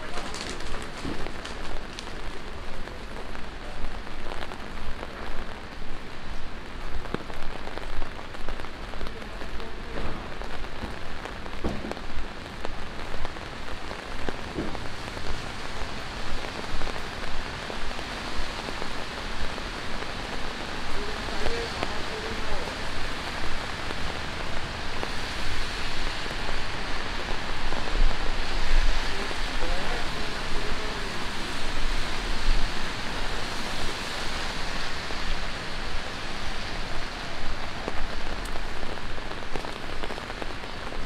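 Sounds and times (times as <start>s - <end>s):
footsteps on wet sidewalk: 0.0s - 41.0s
steady rain on a street: 0.0s - 41.0s.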